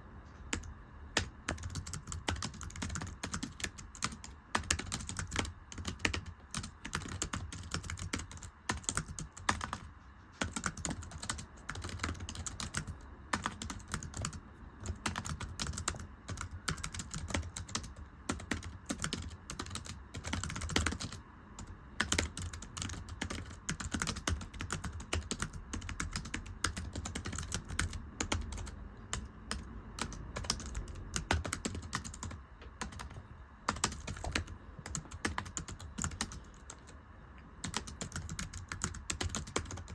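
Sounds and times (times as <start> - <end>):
fast typing on thin keyboard: 0.5 - 36.9, 37.6 - 39.9.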